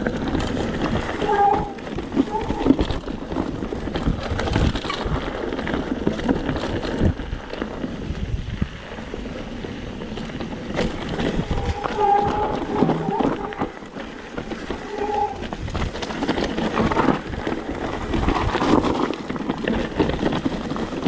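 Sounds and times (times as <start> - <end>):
bike rattling: 0.0 - 21.0
bike tyres rumbling: 0.0 - 21.0
wind buffeting microphone: 0.0 - 21.0.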